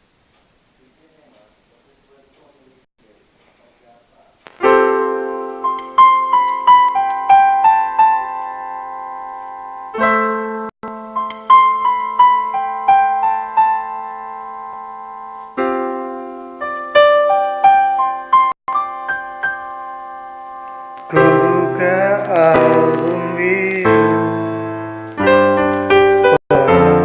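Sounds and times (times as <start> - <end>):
slow solo piano: 4.6 - 27.0.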